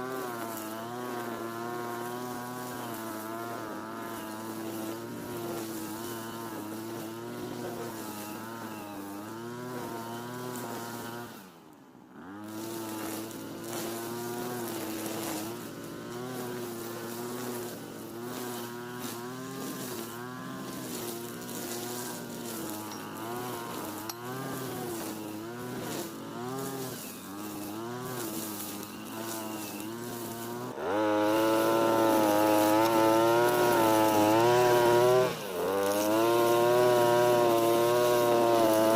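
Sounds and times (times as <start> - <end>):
brush cutter engine cutting: 0.0 - 38.9.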